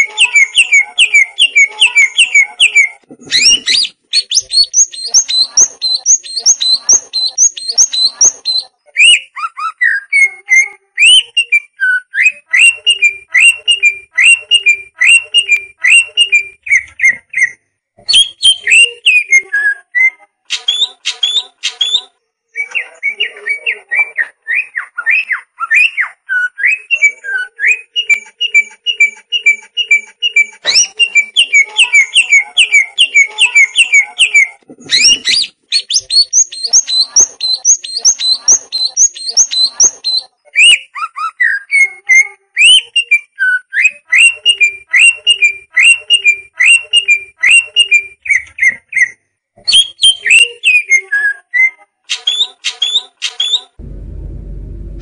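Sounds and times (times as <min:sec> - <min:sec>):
bird singing whistled notes: 0:00.0 - 0:41.9, 0:42.6 - 0:53.7.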